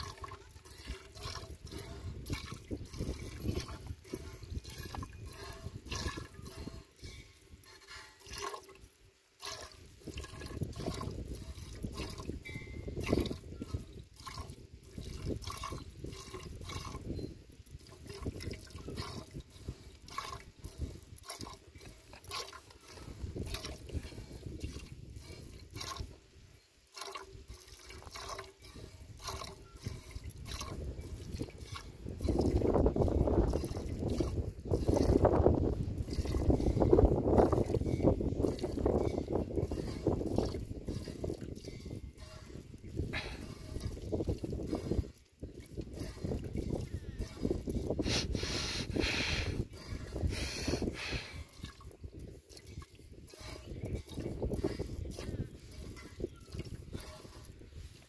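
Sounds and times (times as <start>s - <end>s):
milk squirting: 0.0s - 26.2s, 26.9s - 58.0s.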